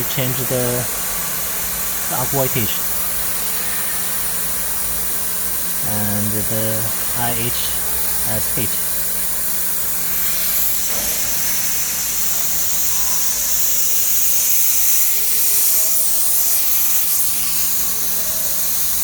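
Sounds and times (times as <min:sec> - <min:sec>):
low electrical hum: 0:00.0 - 0:19.0
plasma torch hissing: 0:00.0 - 0:19.0.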